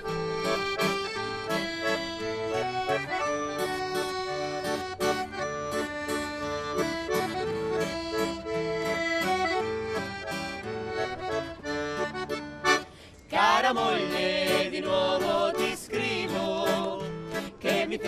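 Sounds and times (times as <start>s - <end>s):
accordion playing chords: 0.0s - 18.0s
acoustic guitar strumming: 0.0s - 18.0s.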